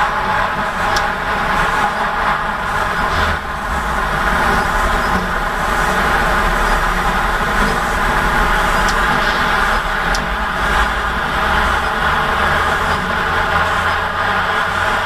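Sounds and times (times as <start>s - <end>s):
low engine rumble: 0.0s - 15.0s
road traffic noise: 0.0s - 15.0s.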